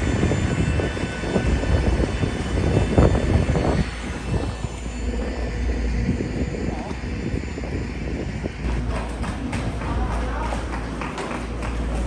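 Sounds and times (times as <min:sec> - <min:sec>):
jet engine rumble in cabin: 0:00.0 - 0:12.0
uneven rumbling: 0:00.0 - 0:12.0.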